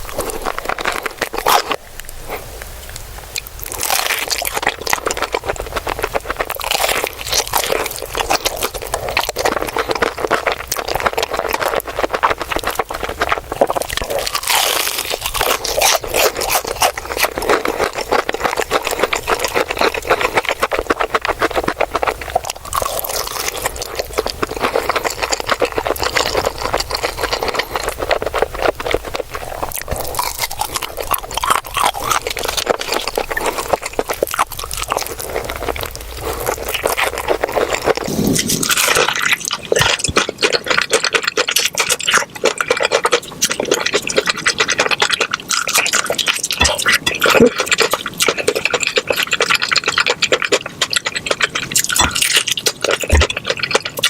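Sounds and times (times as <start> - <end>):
crunching and chewing fried chicken: 0.0 - 54.0.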